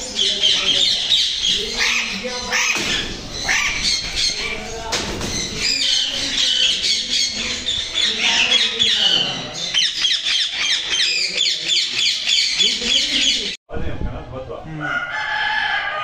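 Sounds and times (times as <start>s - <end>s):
parakeets squawking and screeching: 0.0s - 13.6s.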